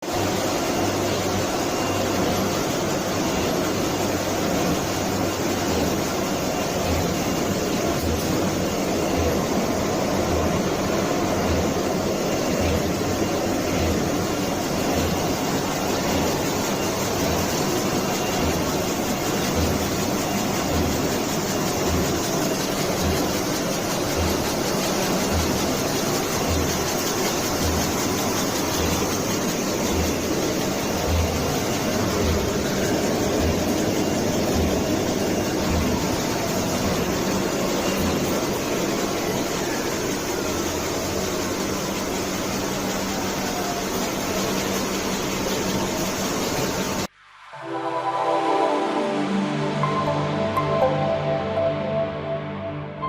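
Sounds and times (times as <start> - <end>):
machine whirring with low pulse: 0.0 - 53.0.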